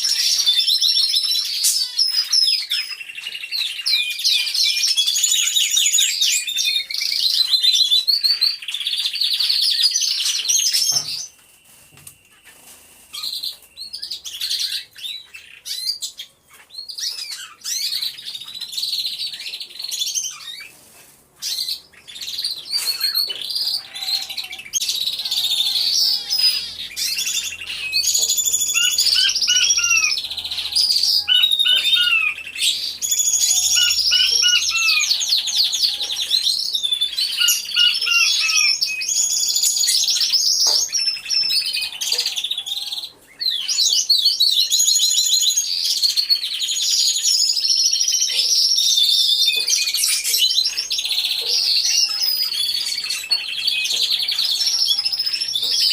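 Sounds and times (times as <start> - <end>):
canaries singing: 0.0 - 55.9.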